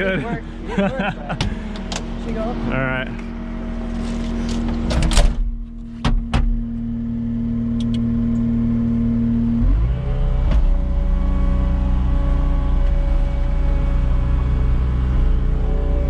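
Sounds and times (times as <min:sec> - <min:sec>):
diesel engine running with whine: 0:00.0 - 0:16.0.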